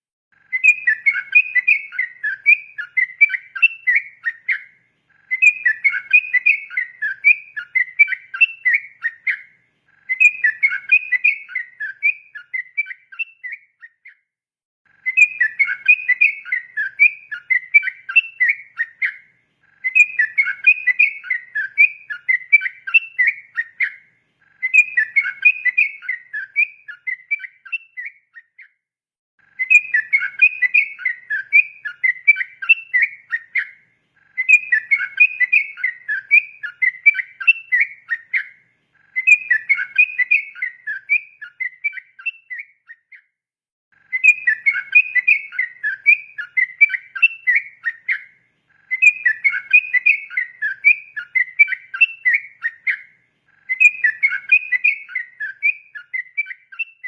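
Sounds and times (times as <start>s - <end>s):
bulbul singing chattering song: 0.3s - 14.3s, 14.9s - 28.8s, 29.4s - 43.3s, 43.9s - 57.0s.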